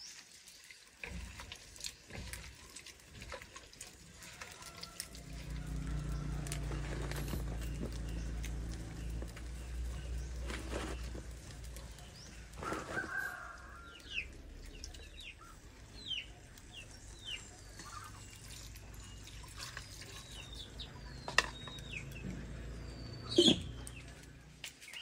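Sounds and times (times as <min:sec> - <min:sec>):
birds chirping: 0:04.6 - 0:25.0.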